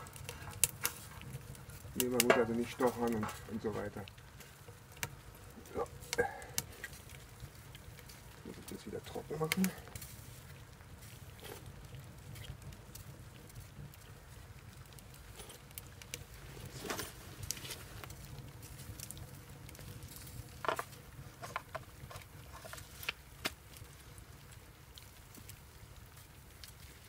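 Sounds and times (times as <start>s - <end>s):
stove burning with low rumble: 0.0s - 27.0s.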